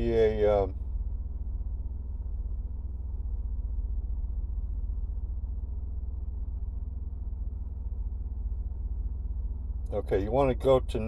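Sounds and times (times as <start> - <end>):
steady low drone: 0.0 - 11.0.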